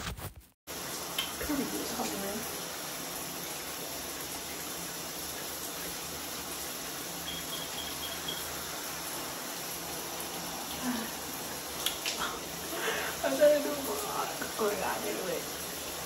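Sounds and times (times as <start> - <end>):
shower water running: 0.7 - 16.0.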